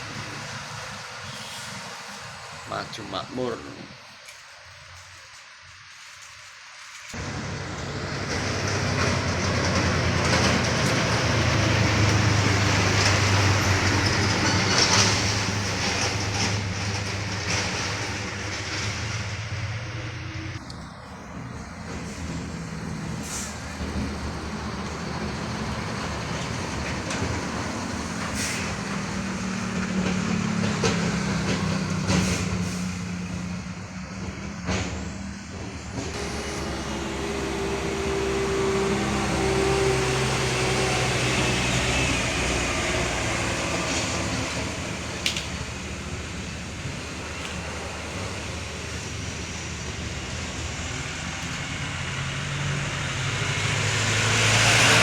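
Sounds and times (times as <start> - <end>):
heavy road traffic passing: 0.0 - 4.1, 7.1 - 55.0
diesel engines of trucks and buses: 0.0 - 55.0.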